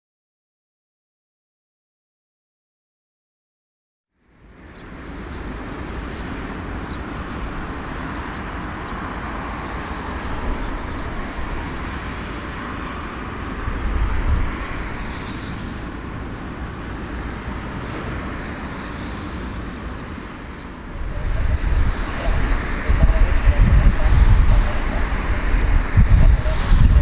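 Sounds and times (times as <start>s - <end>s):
jet engines hissing and rumbling: 4.2s - 27.0s.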